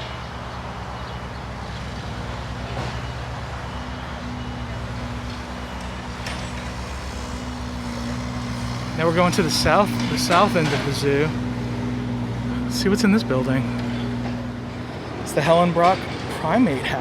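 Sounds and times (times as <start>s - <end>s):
large engine humming: 0.0s - 17.0s.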